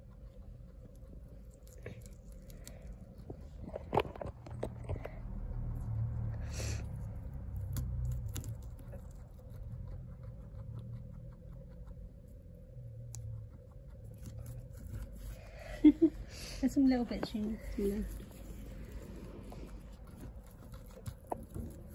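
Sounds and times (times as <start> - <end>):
small pet chewing greens: 0.0 - 21.9.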